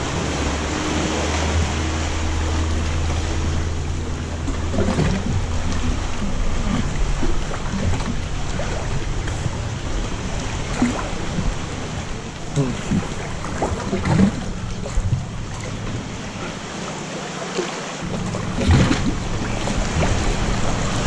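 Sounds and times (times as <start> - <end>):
low steady hum: 0.0 - 21.0
sea water lapping around canoe: 0.0 - 21.0
small water splashes: 0.0 - 21.0.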